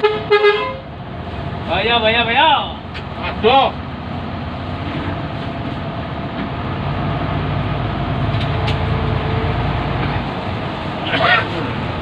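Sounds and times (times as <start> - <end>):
diesel bus engine rumbling: 0.0 - 12.0.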